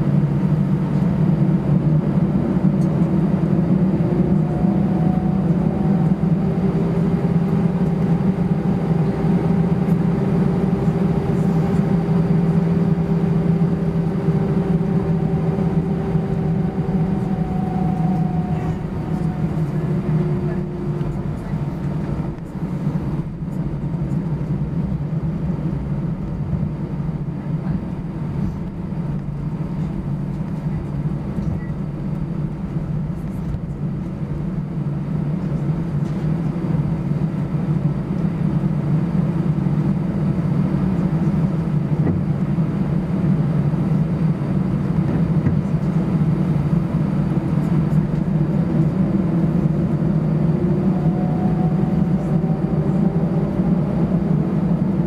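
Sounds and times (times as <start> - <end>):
jet engine low hum: 0.0 - 55.0.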